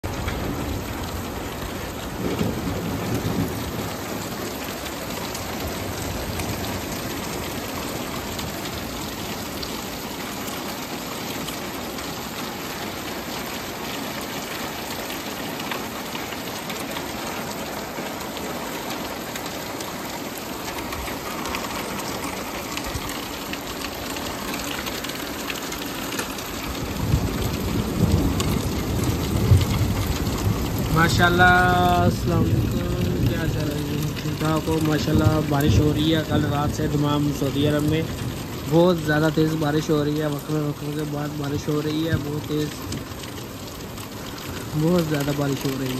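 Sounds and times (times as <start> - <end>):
heavy rain on pavement and cars: 0.0 - 45.9
low rush of rain: 0.0 - 45.9.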